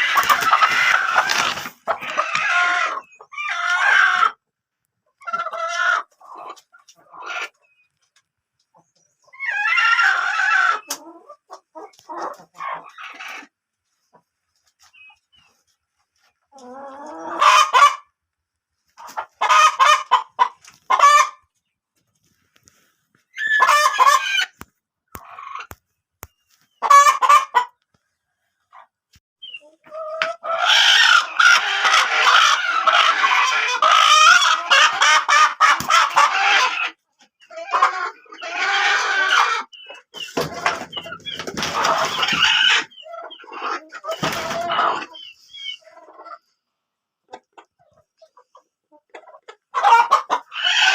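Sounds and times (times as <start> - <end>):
chickens clucking and squawking: 0.0 - 50.9.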